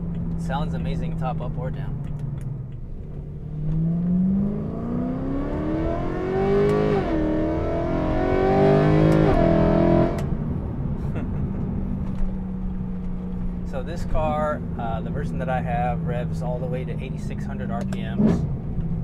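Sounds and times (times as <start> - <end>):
car engine accelerating hard: 3.1 - 19.0.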